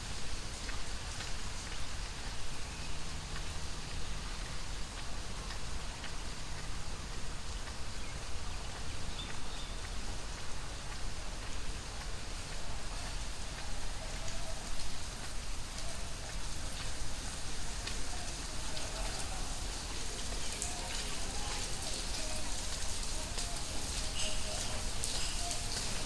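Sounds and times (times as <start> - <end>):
heavy rain pouring: 0.0 - 26.0
raindrops splashing nearby: 0.0 - 26.0.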